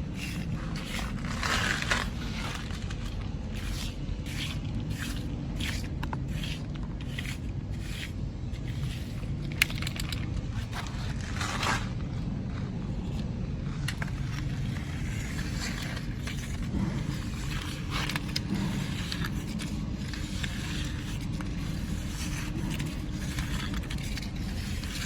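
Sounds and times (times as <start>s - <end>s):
toy digger scraping dirt: 0.0s - 12.1s, 13.0s - 25.0s
steady low rumble: 0.0s - 25.0s.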